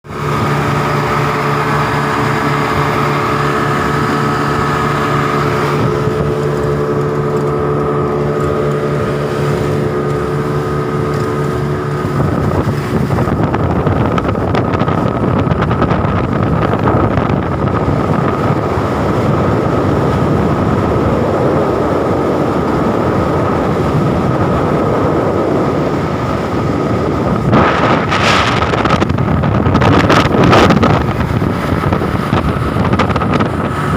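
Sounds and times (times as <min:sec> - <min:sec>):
motorboat engine humming: 0:00.0 - 0:33.9
rushing water: 0:00.0 - 0:33.9
wind on microphone: 0:00.0 - 0:33.9.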